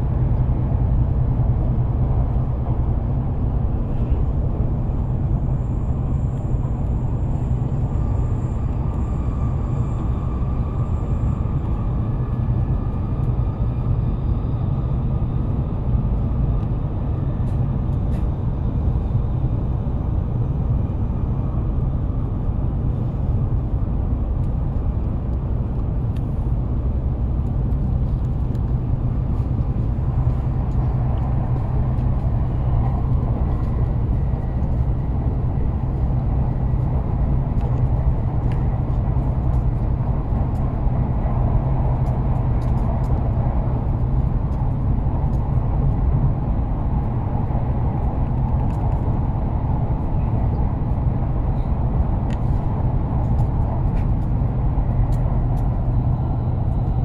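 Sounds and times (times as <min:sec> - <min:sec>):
train cabin low rumble: 0:00.0 - 0:57.0.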